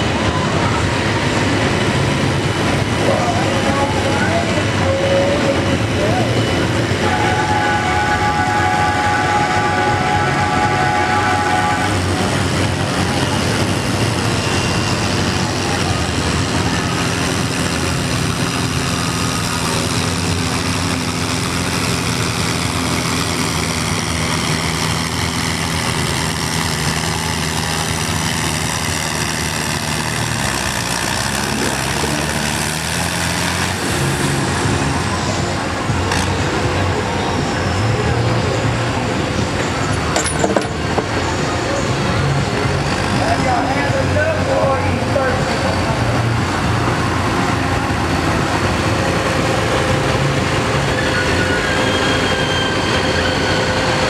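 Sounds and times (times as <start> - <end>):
tractor engines idling: 0.0 - 54.0.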